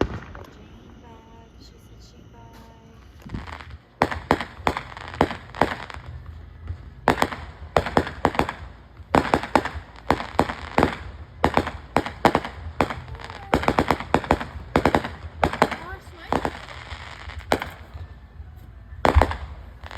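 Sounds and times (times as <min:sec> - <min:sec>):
fireworks cracks and bangs: 0:00.0 - 0:01.5, 0:02.4 - 0:19.9.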